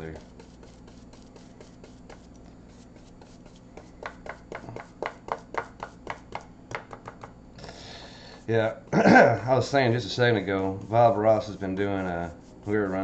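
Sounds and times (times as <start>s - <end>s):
paintbrush dabbing taps: 0.0s - 7.4s, 9.6s - 13.0s.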